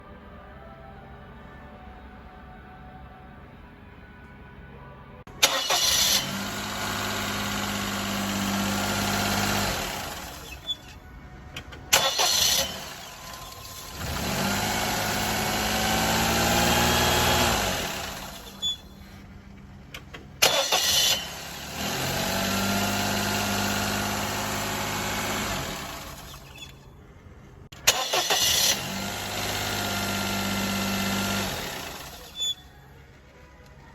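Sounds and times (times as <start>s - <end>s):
car engine starting and running: 5.2s - 33.9s.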